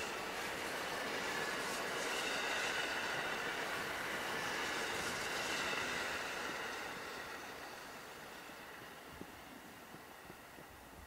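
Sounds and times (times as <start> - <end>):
electric train passing: 0.0 - 11.0.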